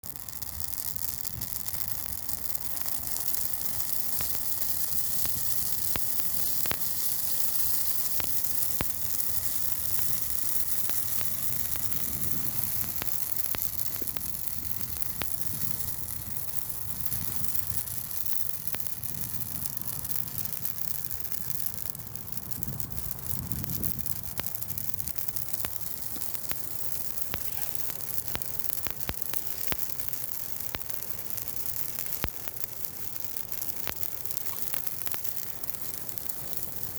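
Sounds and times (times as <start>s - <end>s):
burning tree crackling and popping: 0.0s - 36.9s
flames hissing: 0.0s - 36.9s.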